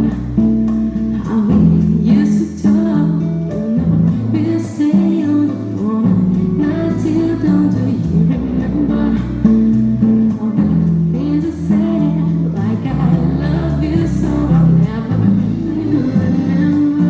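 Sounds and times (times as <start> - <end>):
dance music with singing: 0.0 - 17.0.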